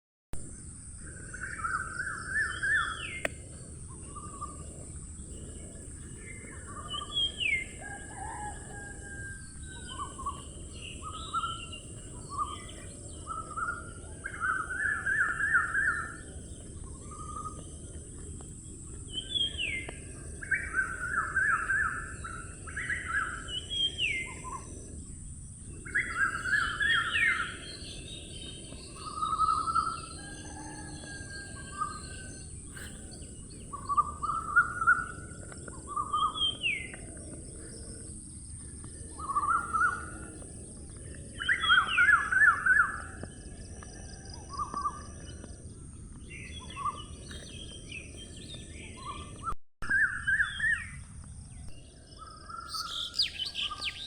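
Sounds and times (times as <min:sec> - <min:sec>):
low outdoor background noise: 0:00.4 - 0:54.0
songbirds singing: 0:00.4 - 0:54.0.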